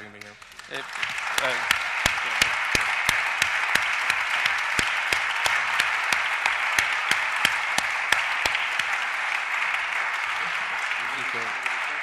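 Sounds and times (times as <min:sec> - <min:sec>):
audience applauding: 0:00.0 - 0:12.0
sharp rhythmic claps: 0:00.0 - 0:12.0.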